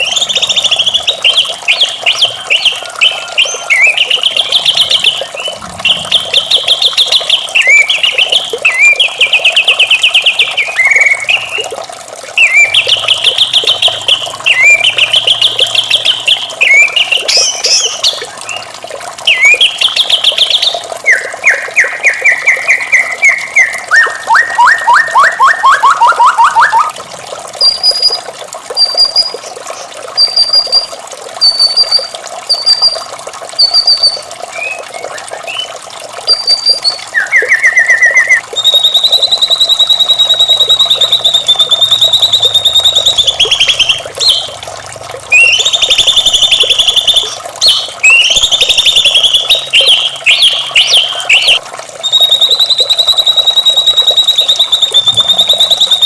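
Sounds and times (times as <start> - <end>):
bird singing trilled phrases: 0.0 - 11.8, 12.4 - 26.9, 27.6 - 44.6, 45.3 - 56.0.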